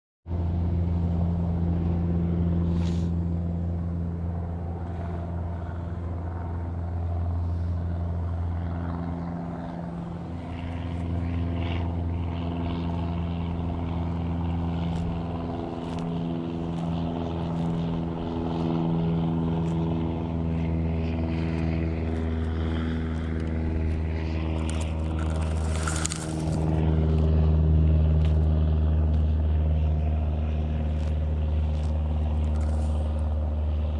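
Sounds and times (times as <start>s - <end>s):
engine humming: 0.3s - 33.9s.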